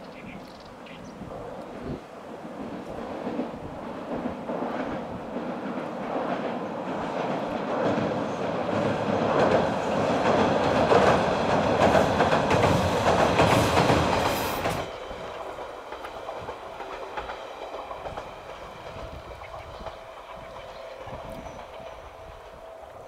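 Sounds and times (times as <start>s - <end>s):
diesel railcar passing: 0.0s - 23.0s.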